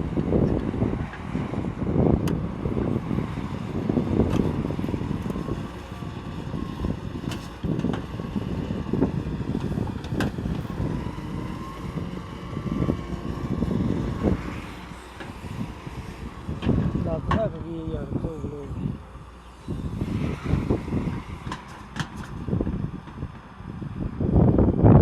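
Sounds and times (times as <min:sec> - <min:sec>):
excavator engine rumbling: 0:00.0 - 0:24.2.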